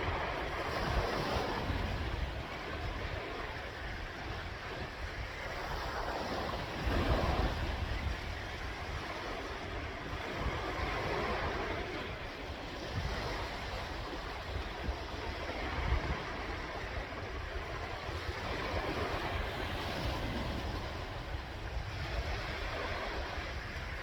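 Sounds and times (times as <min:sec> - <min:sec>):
sea waves washing in: 0:00.0 - 0:24.0
wind rumbling on microphone: 0:00.0 - 0:24.0.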